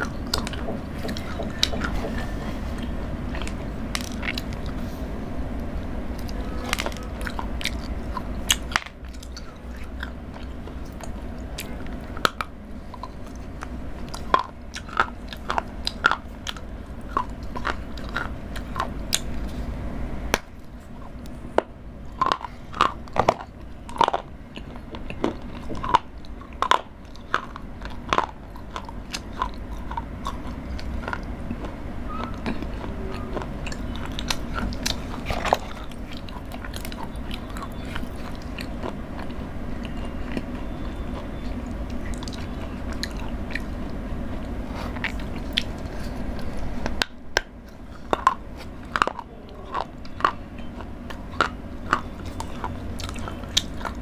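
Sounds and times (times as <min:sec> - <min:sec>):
chewing: 0:00.0 - 0:54.0
chocolate crunching: 0:00.0 - 0:54.0.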